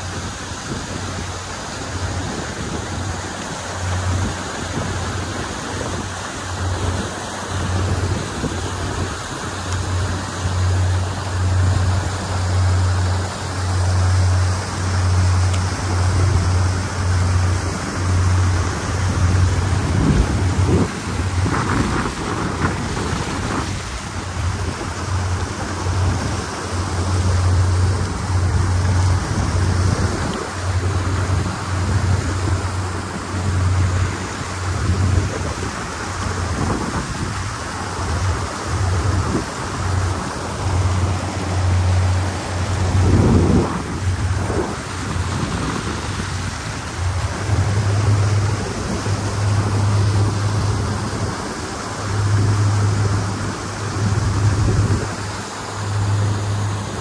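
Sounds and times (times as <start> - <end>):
boat engine and water rushing: 0.0 - 57.0
wind buffeting microphone: 0.0 - 57.0.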